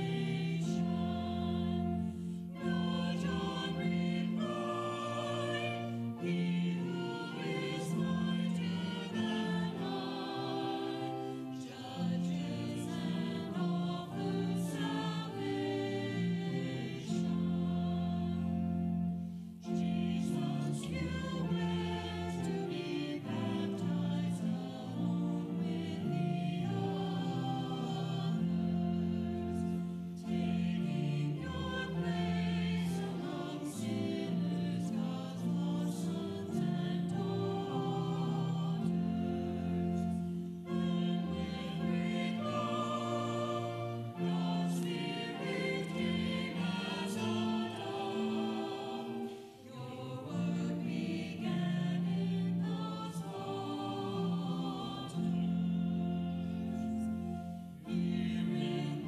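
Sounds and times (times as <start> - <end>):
congregation and choir singing a hymn: 0.0 - 59.0.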